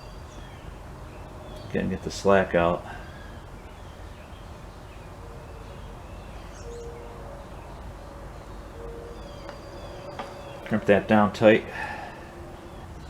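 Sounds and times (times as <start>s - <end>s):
distant birds: 0.0s - 13.0s.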